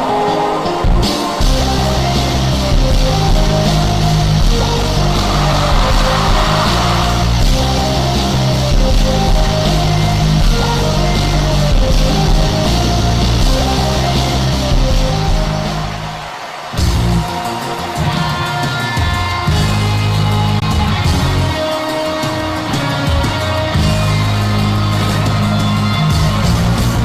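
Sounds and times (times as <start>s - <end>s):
loud heavy metal music: 0.0s - 27.0s.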